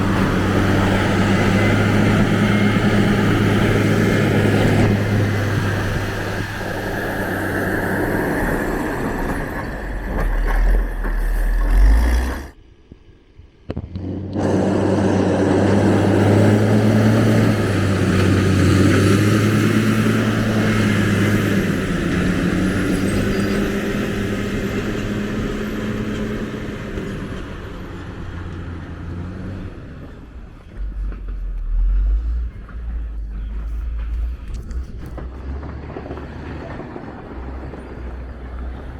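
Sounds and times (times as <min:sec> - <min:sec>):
diesel engine humming: 0:00.0 - 0:12.6, 0:13.7 - 0:38.9.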